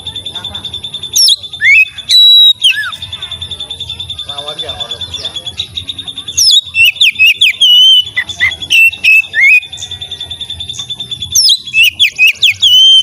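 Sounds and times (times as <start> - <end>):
bird high trill: 0.0 - 13.0
bird whistled song: 0.0 - 13.0.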